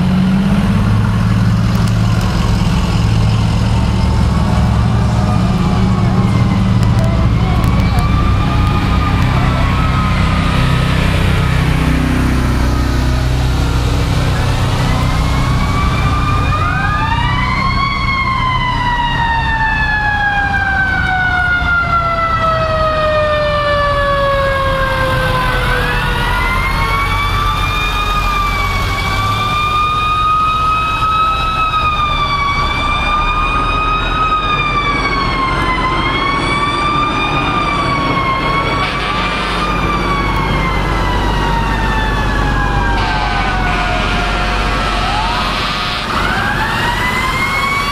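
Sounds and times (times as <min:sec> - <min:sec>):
fire truck sirens wailing: 0:00.0 - 0:47.9
truck engines rumbling: 0:00.0 - 0:47.9.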